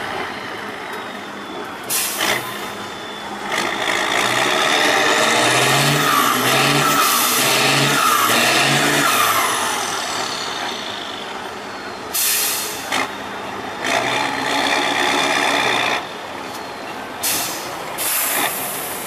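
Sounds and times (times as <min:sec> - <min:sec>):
diesel truck engine: 0:00.0 - 0:19.0.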